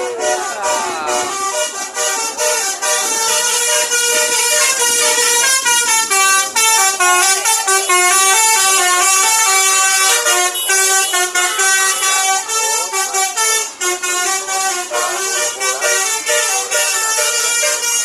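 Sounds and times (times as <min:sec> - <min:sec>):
musical air horn melody: 0:00.0 - 0:18.0.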